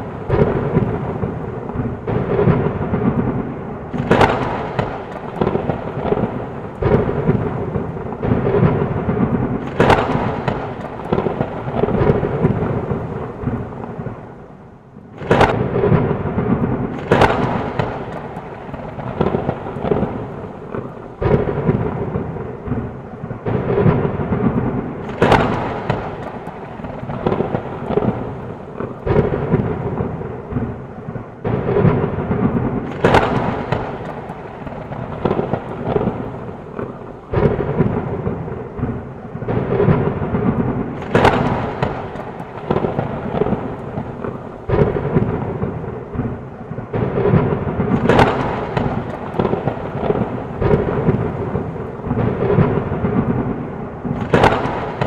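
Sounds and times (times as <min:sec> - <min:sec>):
heavy rain falling: 0:00.0 - 0:14.6, 0:15.4 - 0:55.0
thunder cracks and rumbles: 0:00.0 - 0:14.6, 0:15.2 - 0:55.0.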